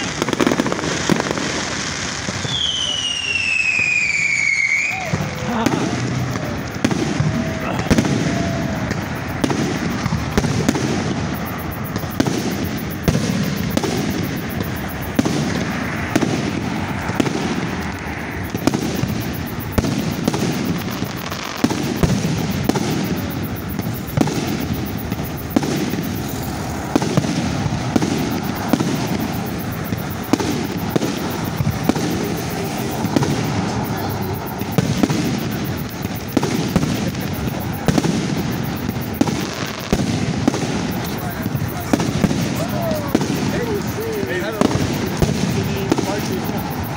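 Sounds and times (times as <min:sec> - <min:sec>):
firework shells launching and bursting: 0:00.0 - 0:46.9.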